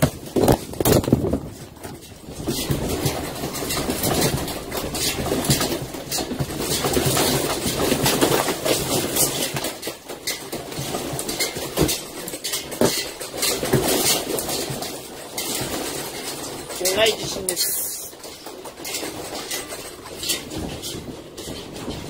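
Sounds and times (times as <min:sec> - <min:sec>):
objects rattling and clattering: 0:00.0 - 0:22.0.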